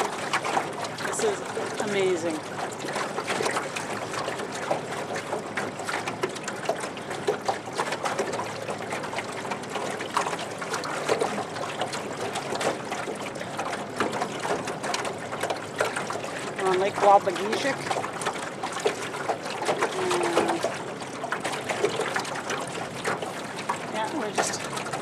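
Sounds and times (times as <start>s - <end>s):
small water splashes: 0.0s - 25.0s
water lapping and trickling: 0.0s - 25.0s.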